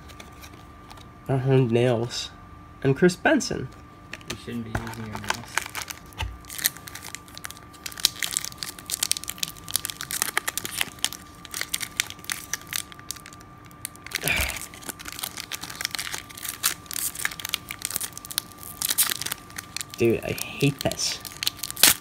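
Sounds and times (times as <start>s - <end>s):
foil wrapper crinkling: 0.0s - 1.1s, 4.1s - 22.0s.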